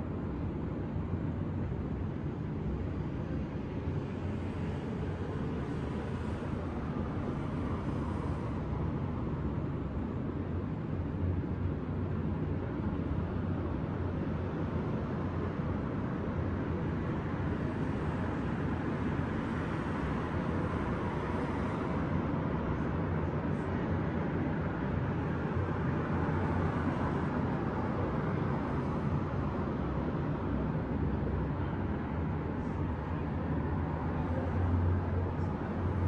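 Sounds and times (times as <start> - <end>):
distant city traffic rumble: 0.0 - 36.0.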